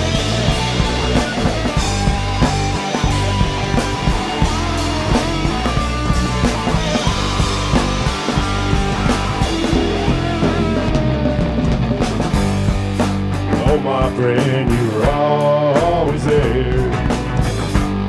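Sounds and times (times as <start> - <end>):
bending lead guitar line: 0.0 - 18.0
rock band playing live: 0.0 - 18.0.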